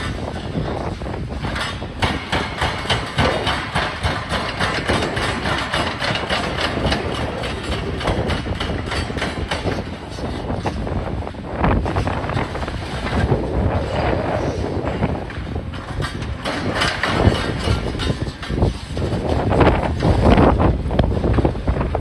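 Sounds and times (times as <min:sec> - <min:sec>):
excavator diesel engine: 0:01.4 - 0:19.3.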